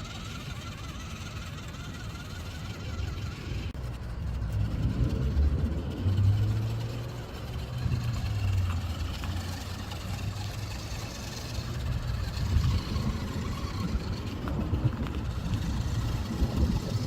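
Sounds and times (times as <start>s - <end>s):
toy truck motor humming: 0.0s - 17.0s.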